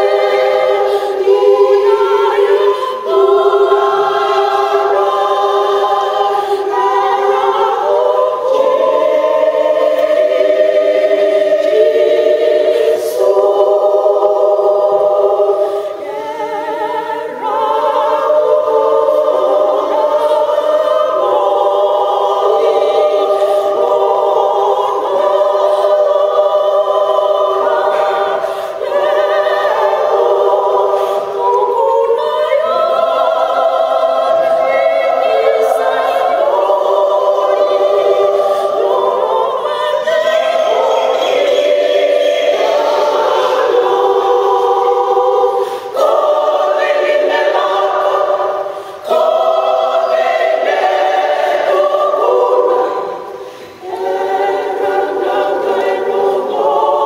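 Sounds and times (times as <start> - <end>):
women's choir singing unaccompanied: 0.0 - 57.0.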